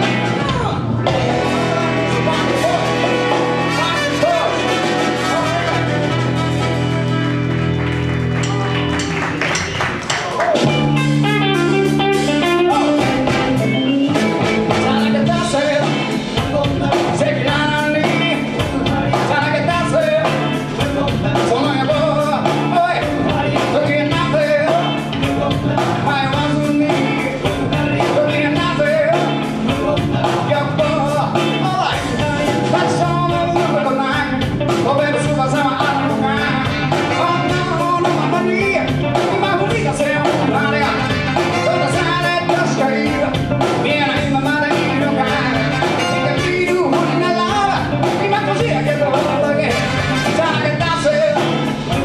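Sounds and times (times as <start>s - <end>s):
bass line: 0.0s - 52.0s
drum beat: 0.0s - 52.0s
person singing: 0.0s - 52.0s
rock and roll band playing: 0.0s - 52.0s.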